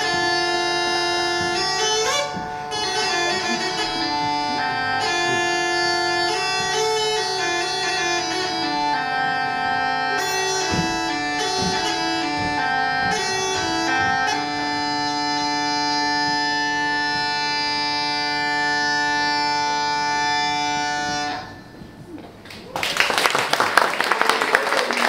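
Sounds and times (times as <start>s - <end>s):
bagpipe melody over drone: 0.0s - 22.1s.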